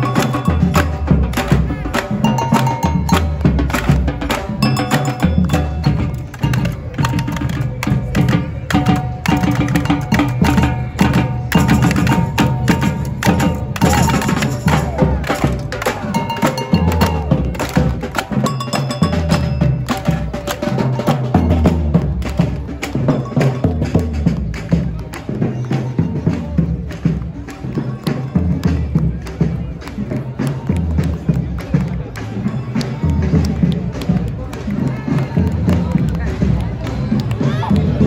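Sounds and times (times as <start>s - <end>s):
bass drums: 0.0s - 38.0s.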